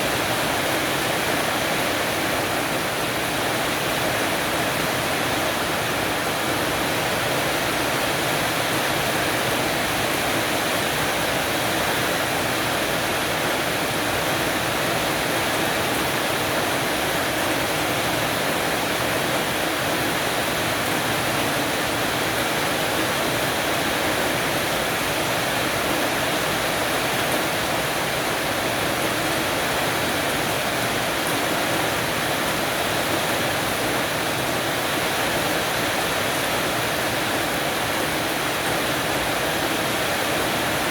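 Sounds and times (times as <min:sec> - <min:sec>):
heavy rain on porch roof: 0:00.0 - 0:40.9.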